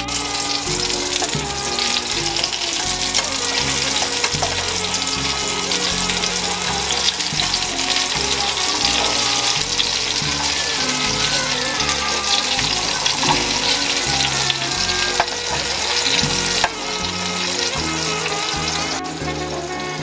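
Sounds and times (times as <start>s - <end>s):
tomato slices sizzling in oil: 0.0s - 20.0s.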